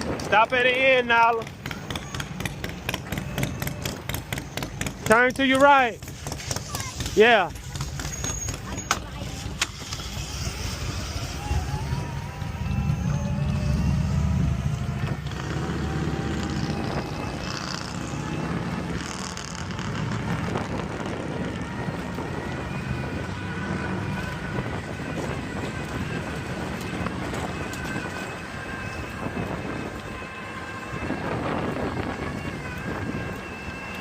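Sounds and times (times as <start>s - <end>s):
bike rolling noise: 0.0s - 34.0s
wind buffeting microphone: 0.0s - 34.0s.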